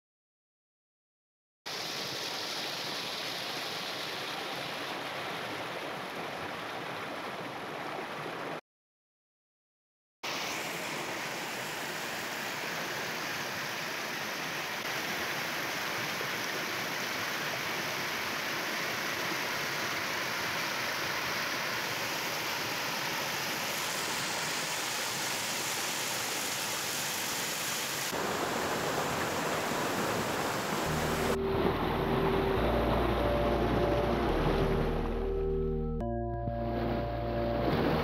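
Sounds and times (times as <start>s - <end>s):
floodwater rushing: 1.7s - 8.6s, 10.3s - 35.6s, 36.6s - 38.0s.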